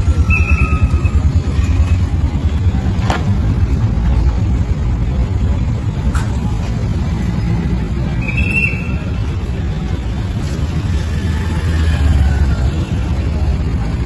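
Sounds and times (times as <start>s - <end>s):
passing cars and scooters rumble: 0.0s - 14.0s.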